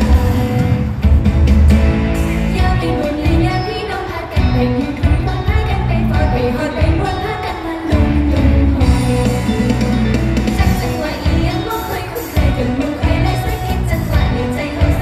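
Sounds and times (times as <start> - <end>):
pop backing music with drums: 0.0 - 15.0
woman singing into microphone: 2.5 - 15.0.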